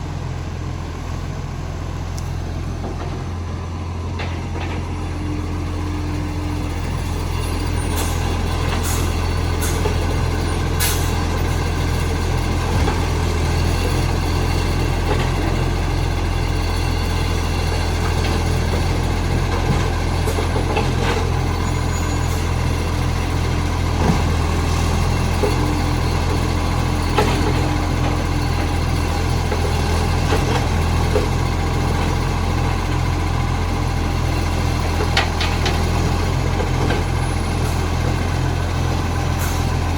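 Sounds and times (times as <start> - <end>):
garbage truck engine droning: 0.0 - 39.9.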